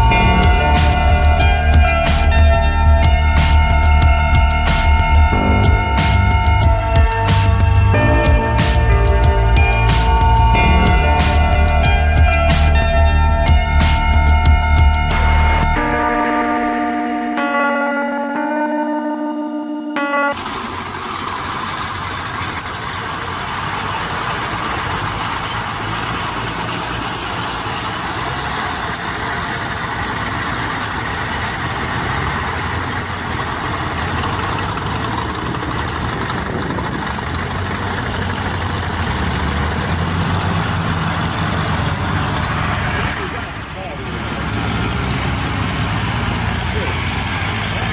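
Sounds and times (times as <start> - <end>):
tractor engines running under load: 0.0 - 17.1, 20.4 - 47.9.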